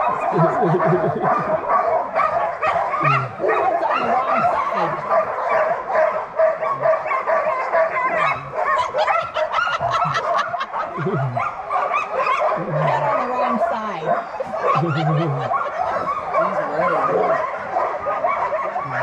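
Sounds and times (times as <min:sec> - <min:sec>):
dogs barking and yipping: 0:00.0 - 0:19.0.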